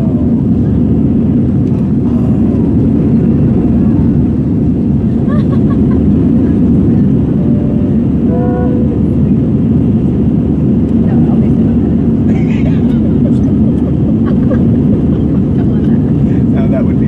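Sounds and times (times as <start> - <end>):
faint voices: 0.0 - 5.3, 6.0 - 17.0
airliner cabin rumble: 0.0 - 17.0.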